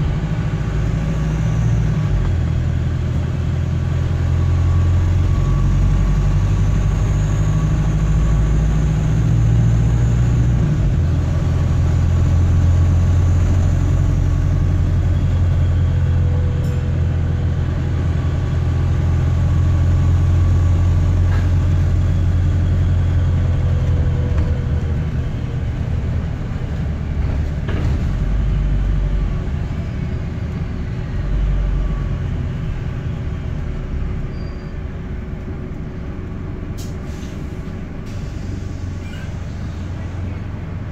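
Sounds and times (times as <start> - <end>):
bus engine drone: 0.0 - 40.9.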